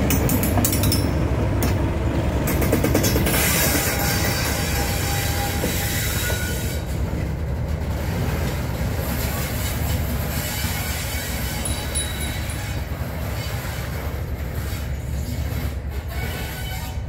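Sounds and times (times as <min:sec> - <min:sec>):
diesel locomotive engine passing: 0:00.0 - 0:17.0
wheels rolling on rails: 0:00.0 - 0:17.0.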